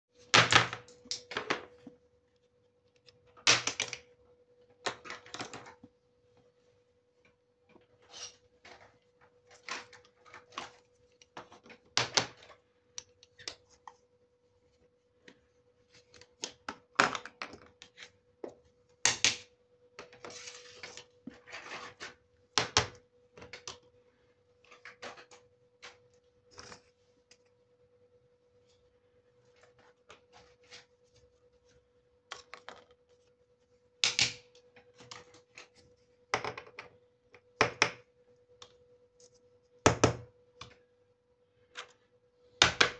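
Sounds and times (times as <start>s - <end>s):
faint steady hum: 0.2s - 42.9s.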